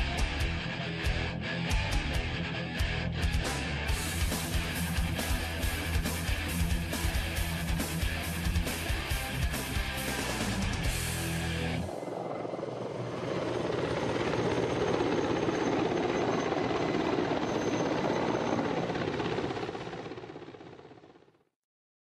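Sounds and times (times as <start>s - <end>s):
helicopter rotor and engine: 0.0s - 21.5s.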